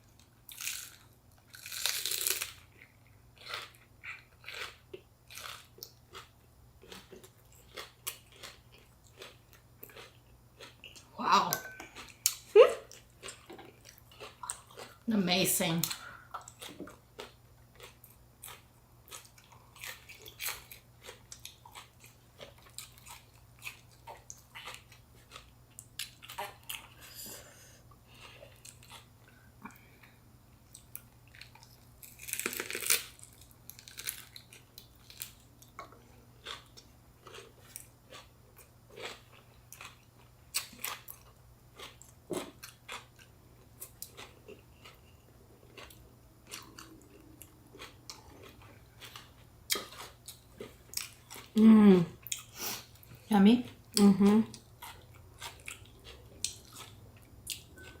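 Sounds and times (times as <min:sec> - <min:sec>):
chewing and crunching: 0:00.0 - 0:15.1, 0:15.8 - 0:27.2, 0:28.1 - 0:58.0.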